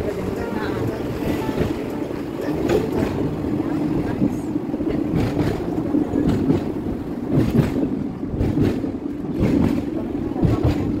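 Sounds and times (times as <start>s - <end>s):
tram rumbling on tracks: 0.0s - 11.0s.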